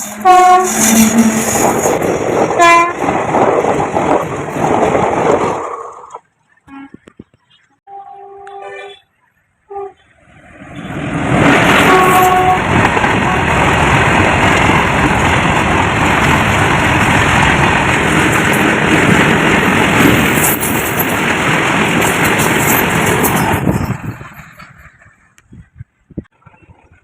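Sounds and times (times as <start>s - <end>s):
train wheels rumbling on rails: 0.0s - 6.3s, 10.4s - 27.0s.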